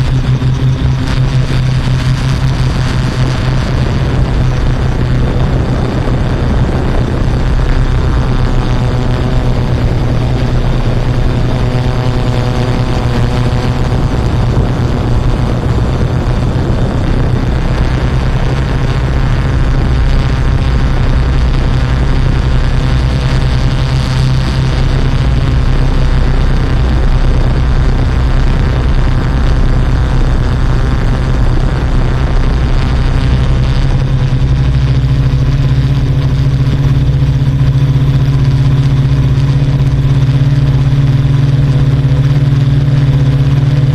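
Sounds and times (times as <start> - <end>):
quadcopter propellers buzzing: 0.0 - 43.9.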